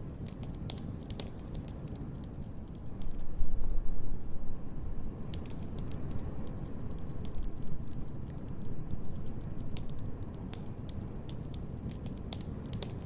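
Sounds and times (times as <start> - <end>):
low rumble of fire: 0.0 - 13.0
wood fire crackling: 0.0 - 13.0.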